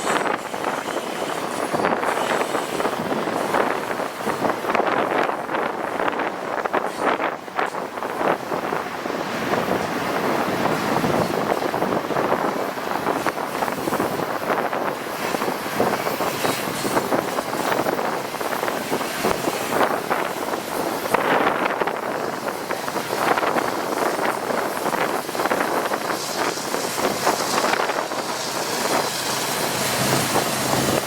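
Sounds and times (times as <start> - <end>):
freight train cars rolling past: 0.0 - 31.0
wind buffeting microphone: 0.0 - 31.0.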